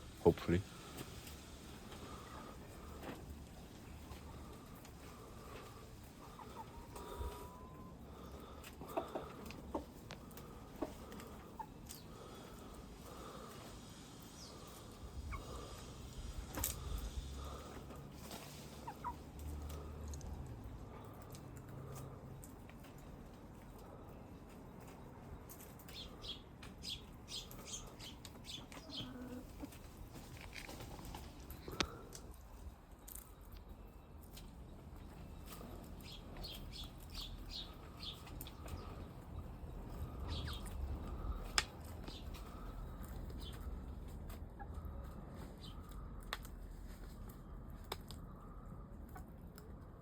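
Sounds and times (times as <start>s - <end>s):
chickens chirping softly: 0.0s - 50.0s.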